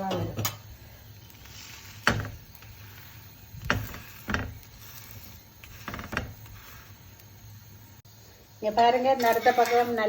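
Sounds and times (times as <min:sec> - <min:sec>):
spatula scraping on griddle: 0:00.0 - 0:08.0, 0:08.7 - 0:10.0.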